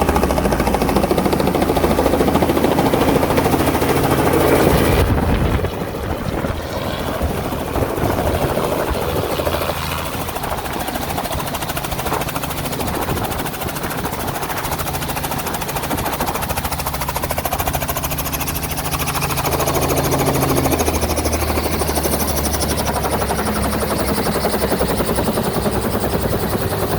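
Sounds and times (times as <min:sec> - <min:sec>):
helicopter rotor drone: 0:00.0 - 0:26.9.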